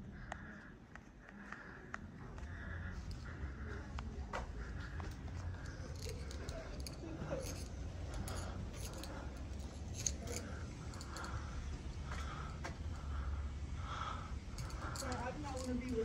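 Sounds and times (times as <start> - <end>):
faint distant voices: 0.0 - 16.0
low steady hum: 0.0 - 16.0.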